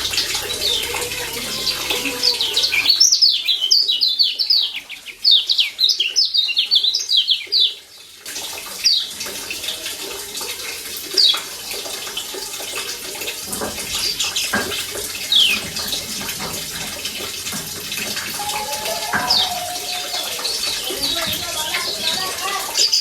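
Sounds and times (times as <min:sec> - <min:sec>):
running splashing water: 0:00.0 - 0:23.0.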